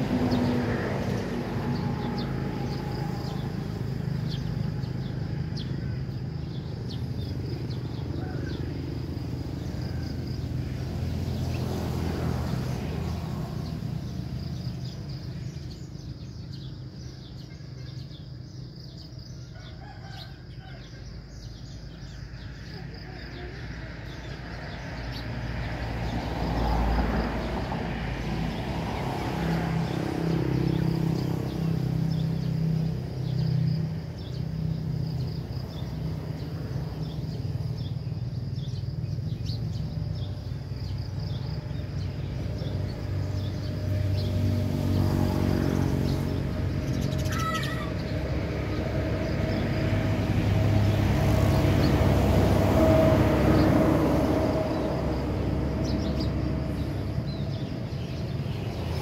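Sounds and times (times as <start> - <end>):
vehicle engine droning: 0.0 - 18.1, 21.4 - 59.0
small birds chirping: 0.0 - 53.1, 54.3 - 59.0.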